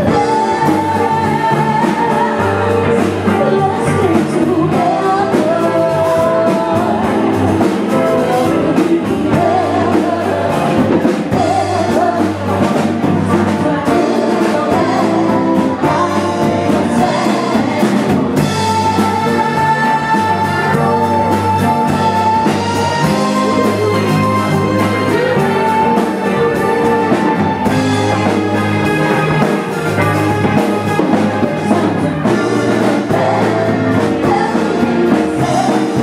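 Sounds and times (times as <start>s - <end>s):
band playing a song: 0.0s - 36.0s
person singing: 0.0s - 36.0s
steady drum beat: 0.0s - 36.0s.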